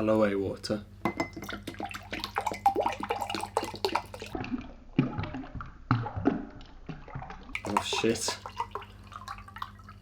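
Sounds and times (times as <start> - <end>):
water splashing into a glass: 1.1 - 10.0.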